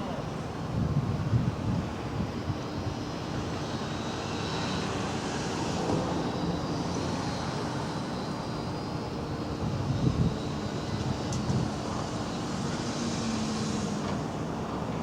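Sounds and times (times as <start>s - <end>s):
aircraft passing overhead: 0.0s - 15.0s.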